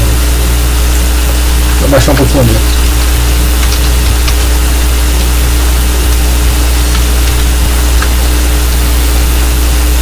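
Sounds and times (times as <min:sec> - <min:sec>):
low electrical hum with hiss: 0:00.0 - 0:10.0.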